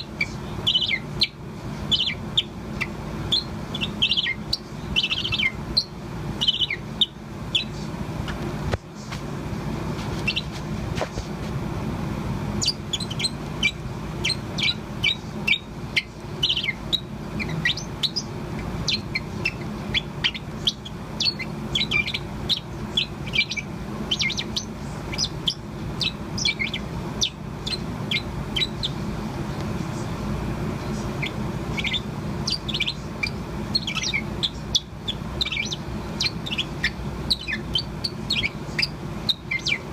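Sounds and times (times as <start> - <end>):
parrot warbling chirps and trills: 0.0 - 8.4, 10.2 - 10.5, 12.6 - 29.0, 31.1 - 39.9
low background hum: 0.0 - 39.9.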